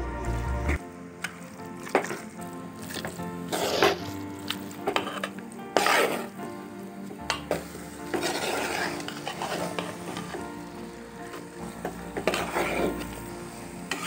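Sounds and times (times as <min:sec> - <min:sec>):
food sizzling in a pan: 0:00.9 - 0:14.0
spoon scraping a pan: 0:01.2 - 0:06.4, 0:07.2 - 0:14.0.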